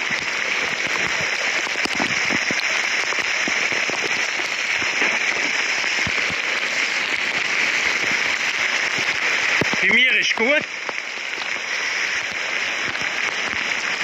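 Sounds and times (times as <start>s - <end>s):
heavy rain on a flooded street: 0.0s - 14.0s.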